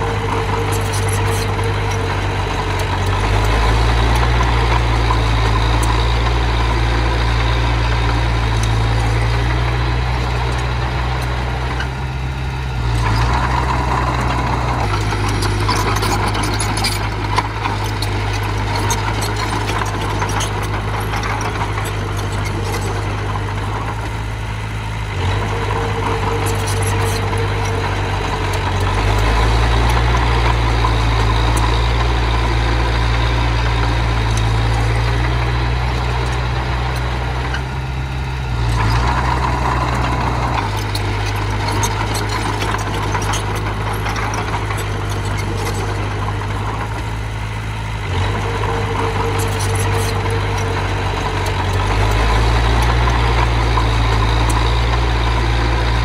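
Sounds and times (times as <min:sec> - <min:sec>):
small bulldozer engine running: 0:00.0 - 0:56.0.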